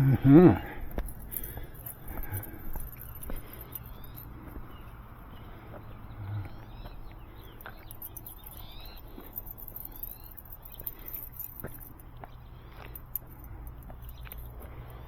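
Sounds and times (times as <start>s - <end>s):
birds chirping: 0.0s - 15.0s
light clicks and jingles: 0.0s - 15.0s.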